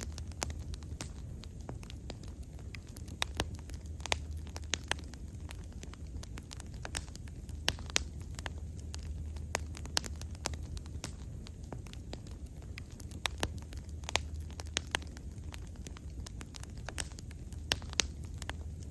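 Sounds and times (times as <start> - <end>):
bonfire crackling and popping: 0.0 - 18.9
low steady rumble: 0.0 - 18.9.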